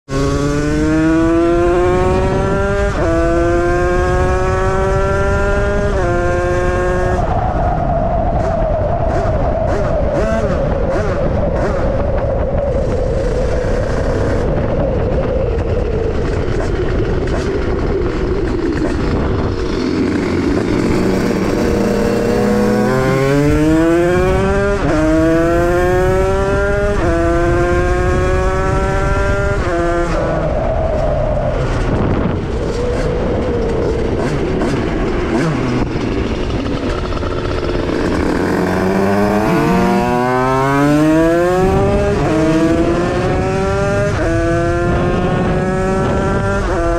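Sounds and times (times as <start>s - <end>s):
two-stroke motorcycle revving: 0.1s - 7.3s, 8.4s - 30.6s, 31.5s - 46.9s.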